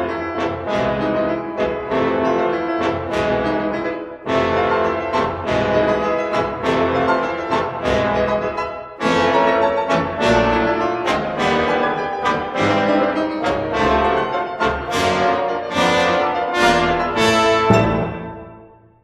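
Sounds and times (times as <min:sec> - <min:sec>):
orchestral music with brass: 0:00.0 - 0:19.0.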